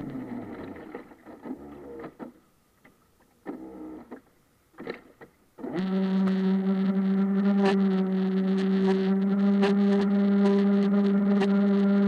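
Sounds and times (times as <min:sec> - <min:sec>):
model boat motor: 0:00.0 - 0:02.4, 0:03.4 - 0:04.2, 0:04.8 - 0:12.0.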